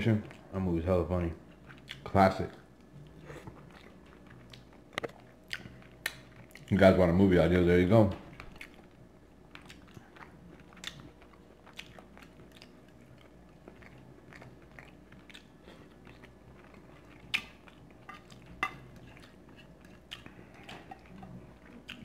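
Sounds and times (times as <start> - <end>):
person chewing food: 1.4 - 6.8, 8.3 - 22.0.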